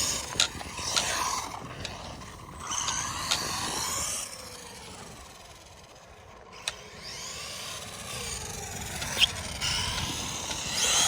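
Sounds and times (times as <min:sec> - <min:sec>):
electric motor whining: 0:00.0 - 0:11.0
tire and drivetrain rasp: 0:00.0 - 0:11.0.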